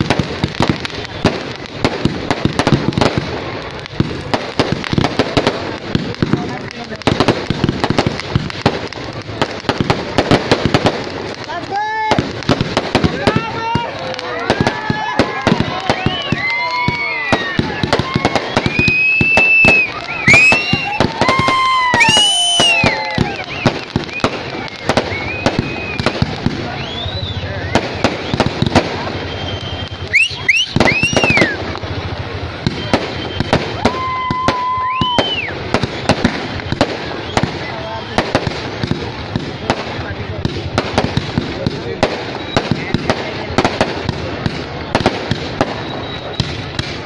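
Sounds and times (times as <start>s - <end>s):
fireworks bangs and pops: 0.0s - 47.0s
fireworks fountain hiss: 0.0s - 47.0s.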